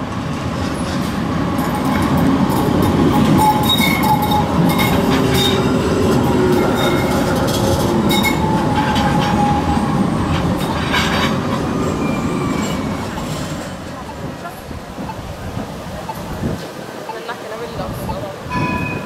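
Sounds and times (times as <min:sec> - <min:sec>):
tram wheels rumbling on rail: 0:00.0 - 0:19.0.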